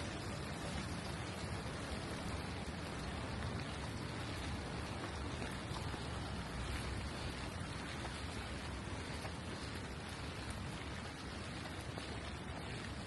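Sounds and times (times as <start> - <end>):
rain falling on street: 0.0 - 13.0.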